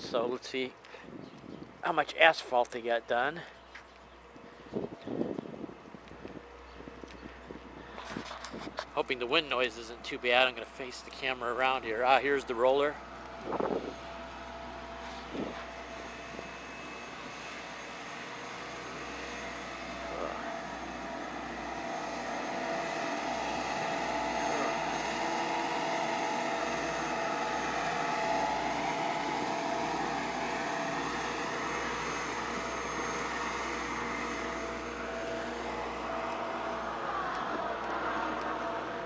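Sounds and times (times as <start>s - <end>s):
road roller diesel engine droning: 2.8s - 39.0s.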